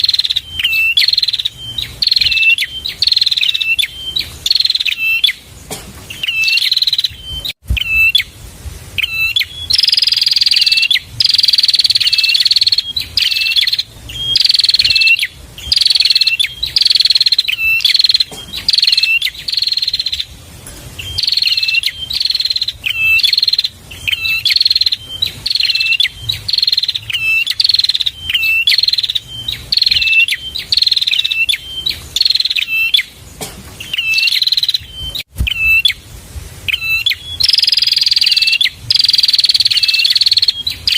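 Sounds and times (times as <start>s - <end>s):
bird chirping song: 0.0s - 40.9s.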